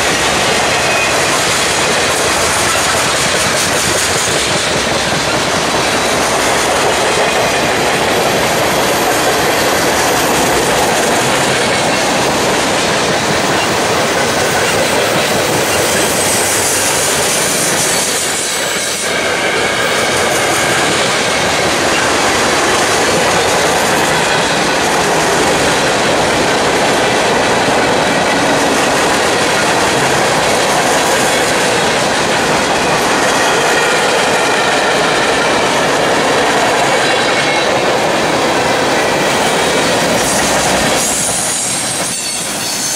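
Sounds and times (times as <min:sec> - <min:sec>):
steel wheels running over rails: 0:00.0 - 0:42.9.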